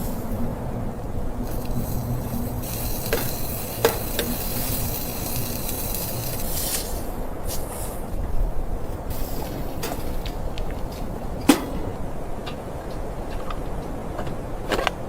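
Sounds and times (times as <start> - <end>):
campfire crackling and hissing: 0.0 - 15.0
campfire pops: 1.4 - 13.6.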